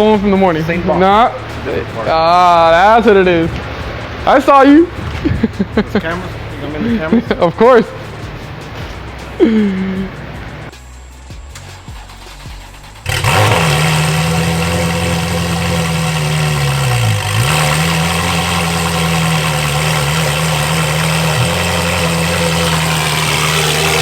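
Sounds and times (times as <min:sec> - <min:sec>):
car engine starting and idling: 0:00.0 - 0:24.0.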